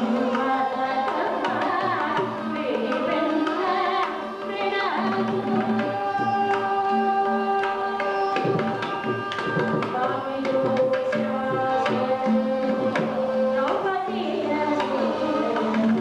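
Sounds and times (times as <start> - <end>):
violin melody: 0.0 - 16.0.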